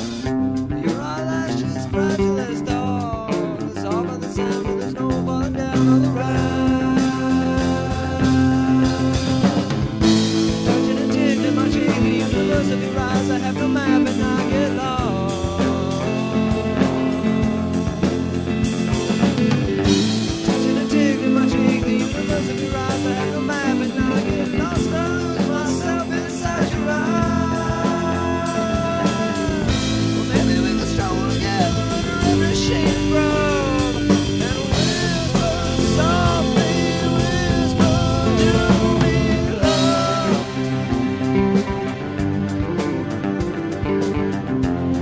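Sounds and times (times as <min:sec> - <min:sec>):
stoner rock band: 0:00.0 - 0:45.0.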